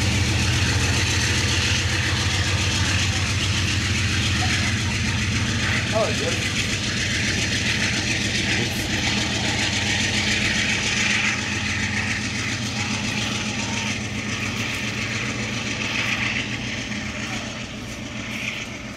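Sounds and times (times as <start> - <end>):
diesel locomotive engine drone: 0.0 - 18.9
wheels hissing on rail: 0.0 - 18.9.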